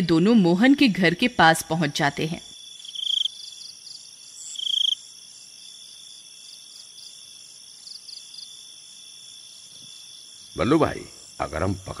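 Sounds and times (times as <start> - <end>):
crickets chirping: 0.0 - 12.0
high insect hum: 0.2 - 12.0.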